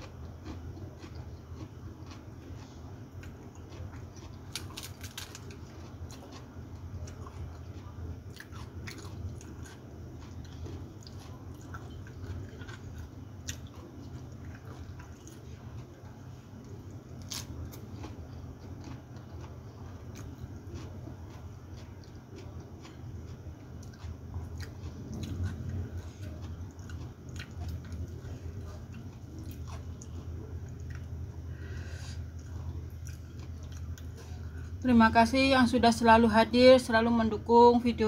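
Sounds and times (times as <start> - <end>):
person crunching food: 0.0 - 34.7
low hum: 0.0 - 38.0.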